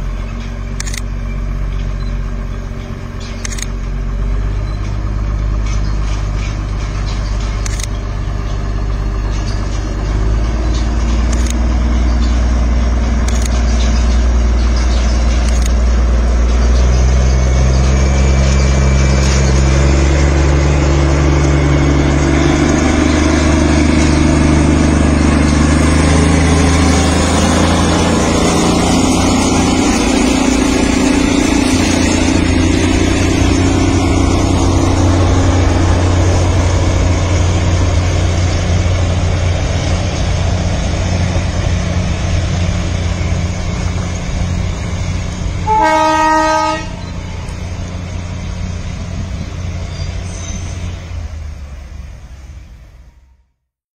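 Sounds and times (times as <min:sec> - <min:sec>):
motor engine droning: 0:00.0 - 0:53.6
rumble of motion noise: 0:00.0 - 0:53.6.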